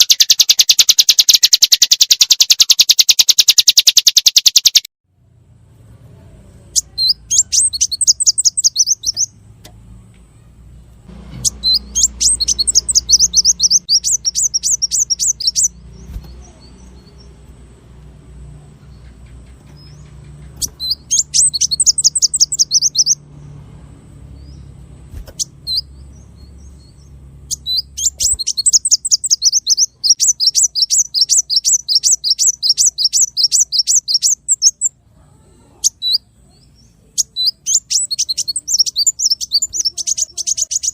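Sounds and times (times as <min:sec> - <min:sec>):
songbird singing rapid trills: 0:00.0 - 0:04.9, 0:06.6 - 0:09.4, 0:11.4 - 0:40.9.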